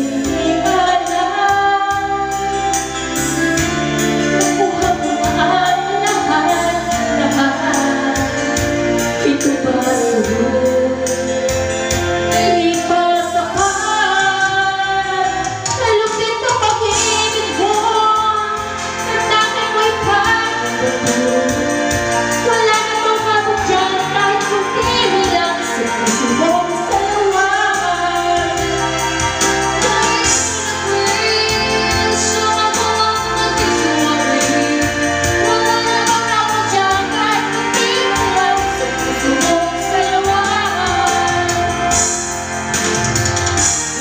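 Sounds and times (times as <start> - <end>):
backing track with steady beat: 0.0 - 44.0
woman singing karaoke: 0.0 - 44.0.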